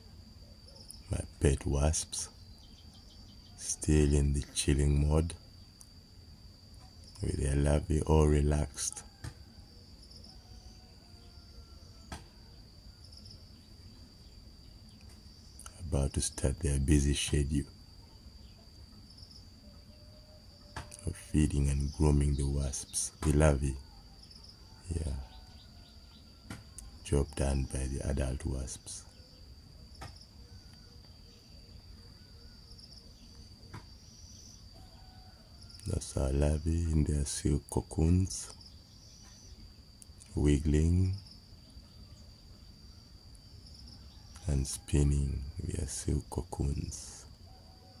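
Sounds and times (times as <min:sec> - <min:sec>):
faint bird chirps: 0:00.0 - 0:06.0, 0:06.7 - 0:48.0
high-pitched insect drone: 0:00.0 - 0:48.0.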